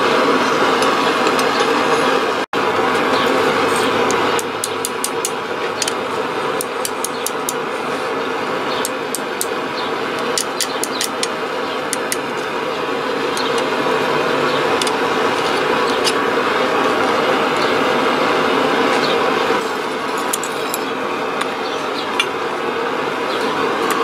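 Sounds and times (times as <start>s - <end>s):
forge burner roar: 0.0s - 24.0s.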